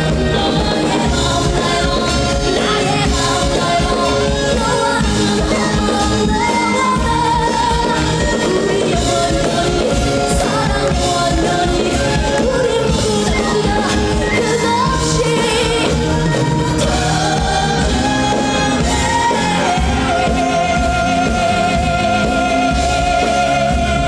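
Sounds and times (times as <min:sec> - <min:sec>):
pop music with woman singing: 0:00.0 - 0:24.0.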